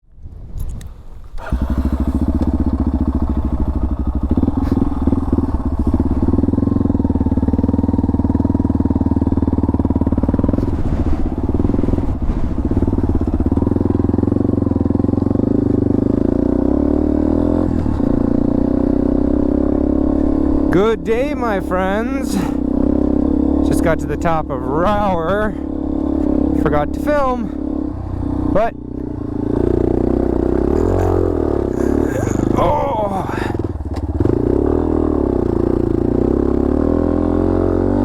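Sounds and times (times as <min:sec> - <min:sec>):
dirt bike engine running: 0:01.2 - 0:38.0.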